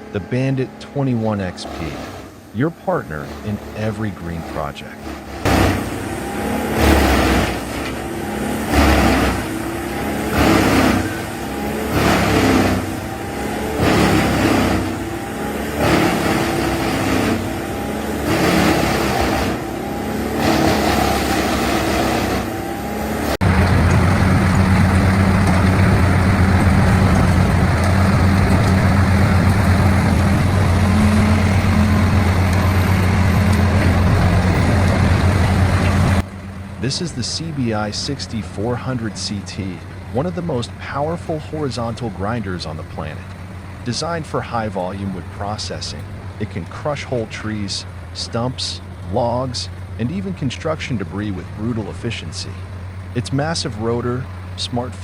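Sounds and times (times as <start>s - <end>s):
machine engine drone: 0.0s - 55.0s
wood chipper crunching wood: 1.2s - 51.9s.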